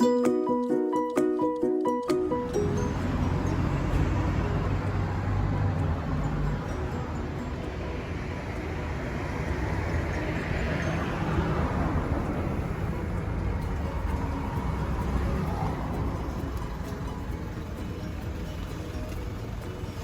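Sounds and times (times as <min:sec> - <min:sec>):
road vehicle rumble: 0:02.0 - 0:20.0.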